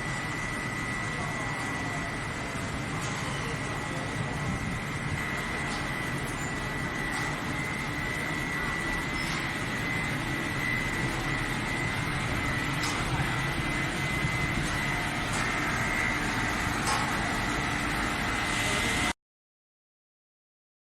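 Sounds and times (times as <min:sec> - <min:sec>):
boiler machinery drone with whine: 0:00.0 - 0:19.2.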